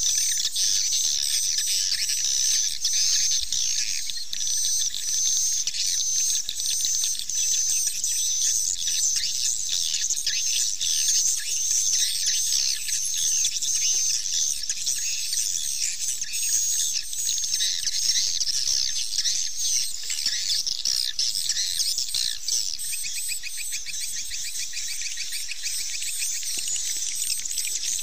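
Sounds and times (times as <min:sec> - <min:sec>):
swiftlets twittering and chirping: 0:00.0 - 0:28.0.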